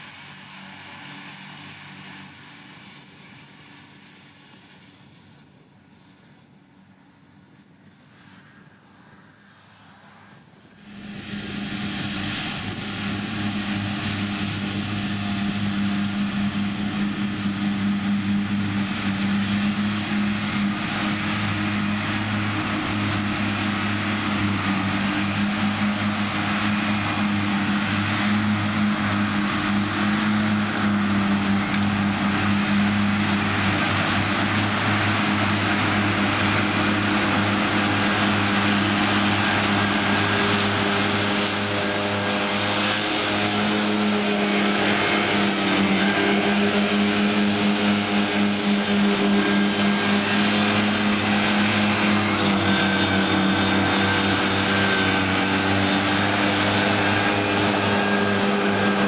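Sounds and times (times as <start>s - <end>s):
mowers whirring: 0.0s - 8.4s, 10.6s - 59.0s
tractor diesel engine drone: 0.0s - 59.0s.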